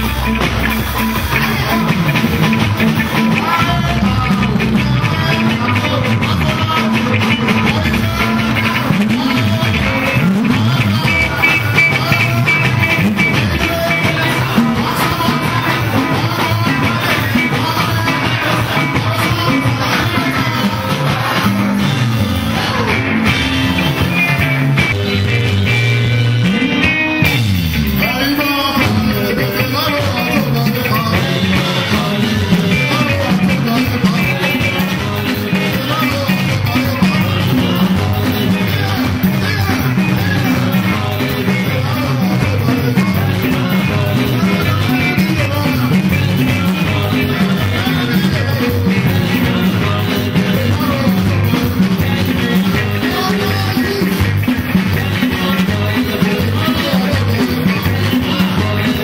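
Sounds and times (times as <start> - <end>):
bass guitar: 0.0 - 59.0
drums: 0.0 - 59.0
electric guitars: 0.0 - 59.0
person singing: 0.0 - 59.0.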